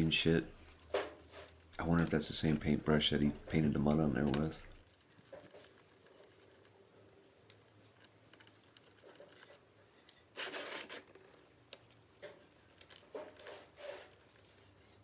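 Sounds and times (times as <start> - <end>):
rustling scrape: 0.0 - 6.8, 7.7 - 11.3, 12.2 - 15.0
small clicks and scratches: 0.0 - 15.0.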